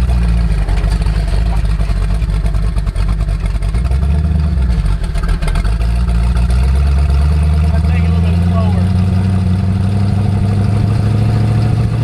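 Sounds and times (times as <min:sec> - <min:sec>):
loud low engine running: 0:00.0 - 0:12.0.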